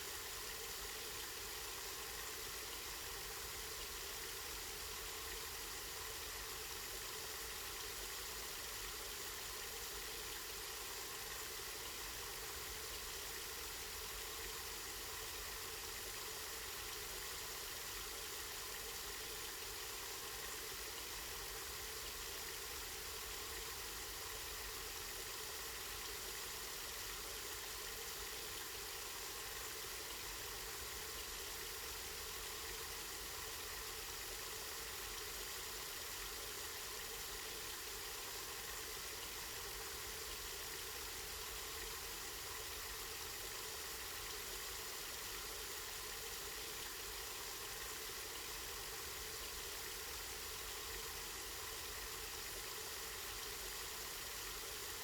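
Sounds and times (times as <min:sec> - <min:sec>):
spring water flowing: 0:00.1 - 0:55.0.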